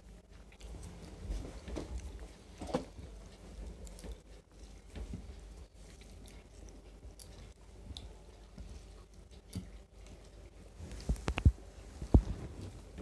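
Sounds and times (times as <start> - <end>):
chewing: 0.3 - 11.4.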